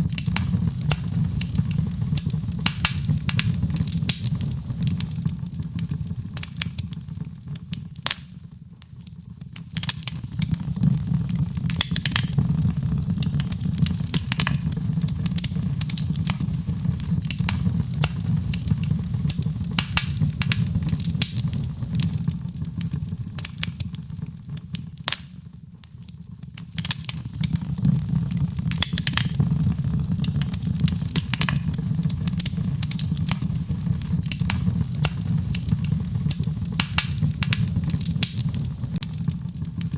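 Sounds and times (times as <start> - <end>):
low rumble of burning: 0.0 - 39.9
wood fire crackling and popping: 0.0 - 39.9.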